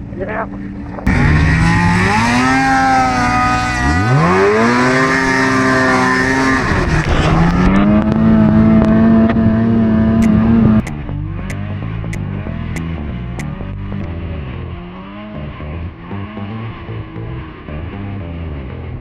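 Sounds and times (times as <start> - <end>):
snowmobile engine revving: 0.4 - 17.1.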